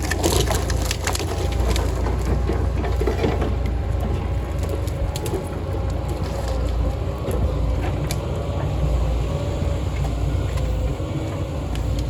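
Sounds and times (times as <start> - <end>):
wood and branches cracking: 0.0 - 8.7, 9.9 - 12.0
heavy diesel engine running: 0.0 - 12.0.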